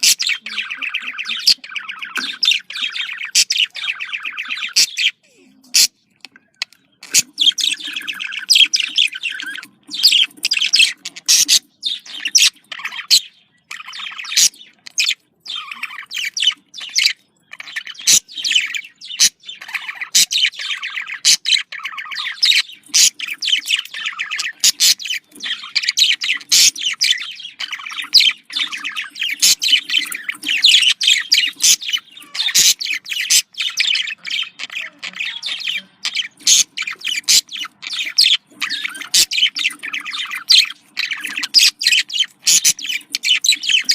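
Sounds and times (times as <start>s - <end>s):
budgerigars warbling and chattering: 0.0s - 43.9s.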